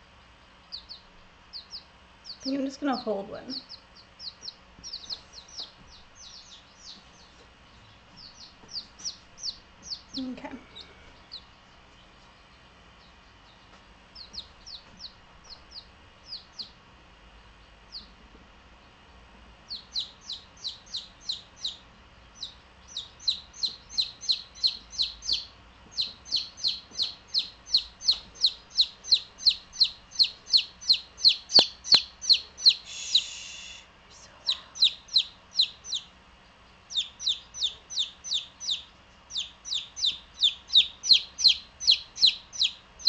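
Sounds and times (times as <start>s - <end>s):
baby chick peeping: 0.0s - 43.0s.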